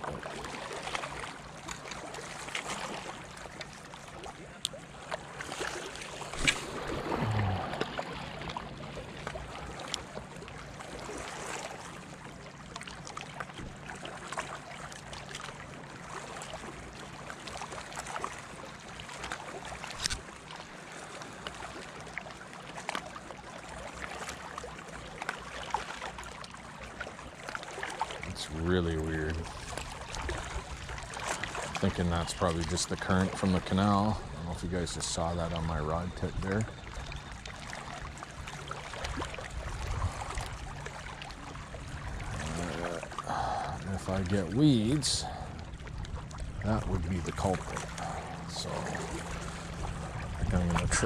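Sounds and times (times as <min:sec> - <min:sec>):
small splashes and clicks: 0:00.0 - 0:34.1, 0:34.8 - 0:44.4
small waves lapping on rocks: 0:00.0 - 0:51.0.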